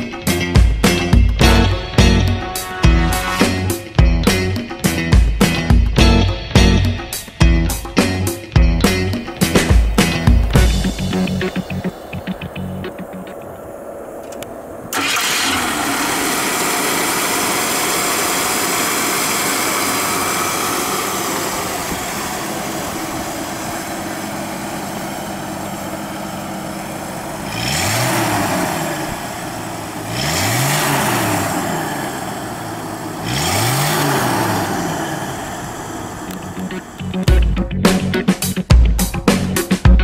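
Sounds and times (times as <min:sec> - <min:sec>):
car engine idling: 0:00.0 - 0:38.2
engine revving: 0:00.0 - 0:38.6.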